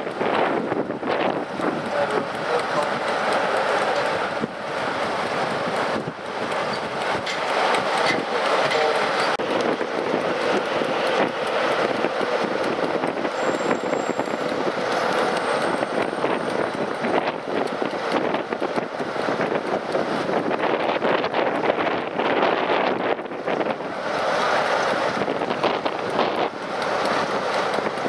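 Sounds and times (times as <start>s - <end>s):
railway station background: 0.0s - 28.0s
wind buffeting microphone: 0.0s - 28.0s.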